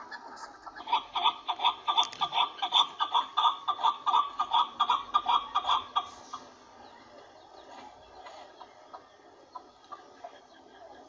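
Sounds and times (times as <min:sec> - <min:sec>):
partridge clucking call: 0:00.0 - 0:11.0.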